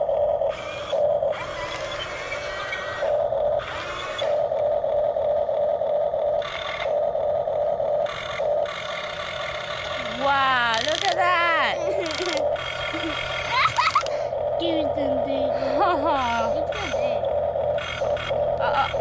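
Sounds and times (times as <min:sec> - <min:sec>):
toy electric motors whining: 0:00.0 - 0:19.0.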